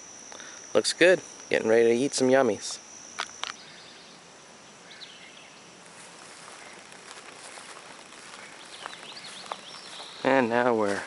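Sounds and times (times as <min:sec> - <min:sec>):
faint high chirps: 0:00.0 - 0:11.0
faint steady hiss: 0:00.0 - 0:11.0.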